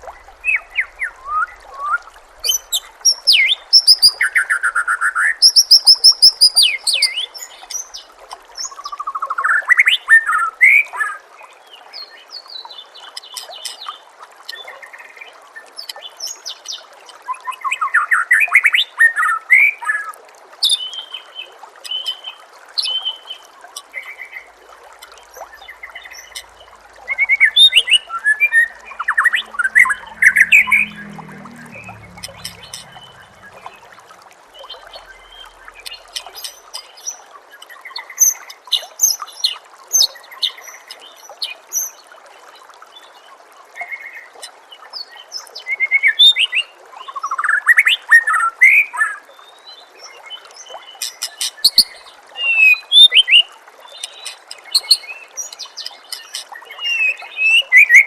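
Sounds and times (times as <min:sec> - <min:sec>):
running water trickling: 0:00.0 - 0:58.0.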